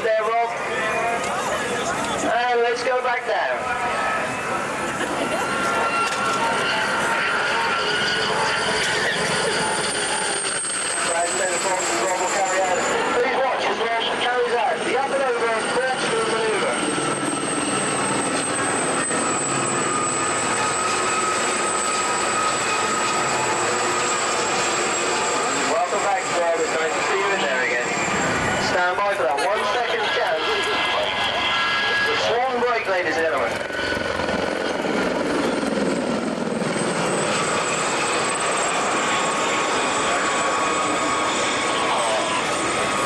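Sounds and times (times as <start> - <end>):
helicopter turbine and rotor: 0.0 - 43.0
jet aircraft flying over: 0.0 - 43.0.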